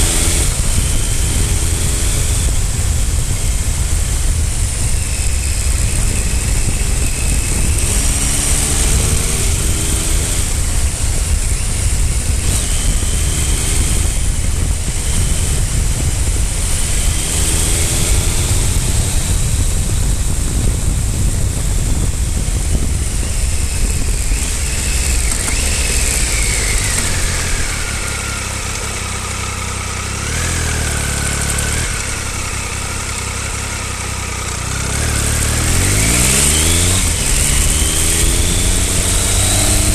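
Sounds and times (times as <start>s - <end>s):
wind noise: 0.0s - 28.7s, 30.2s - 33.8s, 34.6s - 39.9s
motorcycle engine: 0.0s - 39.9s.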